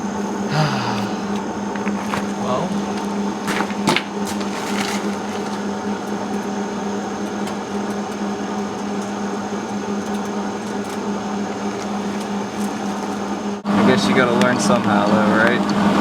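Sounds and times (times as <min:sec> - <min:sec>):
welder humming: 0:00.0 - 0:14.0.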